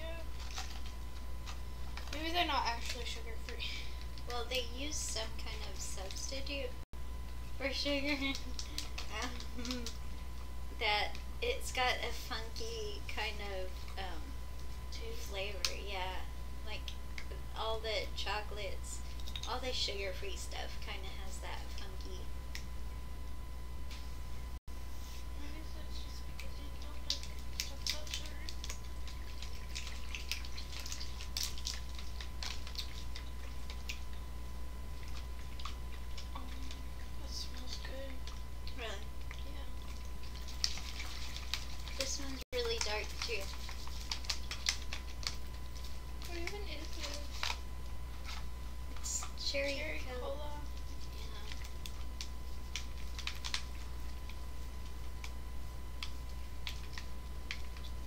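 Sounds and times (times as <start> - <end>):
small clicks and crackles: 0.0 - 6.6, 7.2 - 10.5, 12.6 - 17.4, 18.9 - 22.7, 25.6 - 34.3, 35.0 - 58.0
low electrical hum: 0.0 - 58.0.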